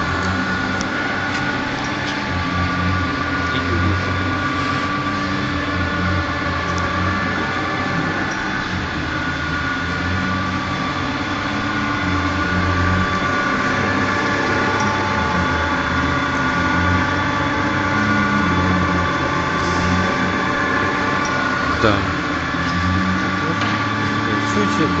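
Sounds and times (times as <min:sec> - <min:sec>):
electric motor hum and whine: 0:00.0 - 0:25.0.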